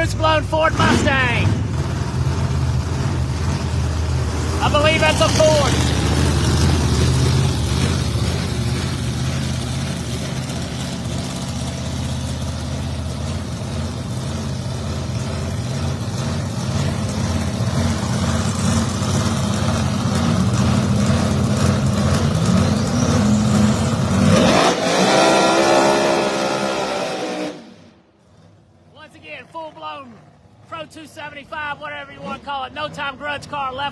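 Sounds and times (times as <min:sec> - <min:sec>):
race car engines idling: 0:00.0 - 0:24.9, 0:27.8 - 0:33.9
engine revving up: 0:00.0 - 0:28.5.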